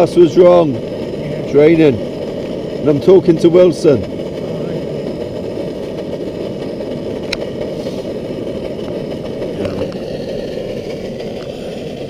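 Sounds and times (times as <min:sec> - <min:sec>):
camping stove roaring: 0:00.0 - 0:12.0.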